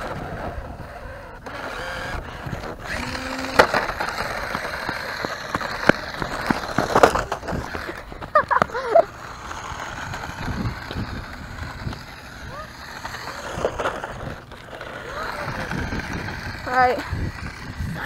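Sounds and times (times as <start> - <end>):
short bending whines: 0.0 - 18.0
toy car rolling and rattling: 0.0 - 18.0.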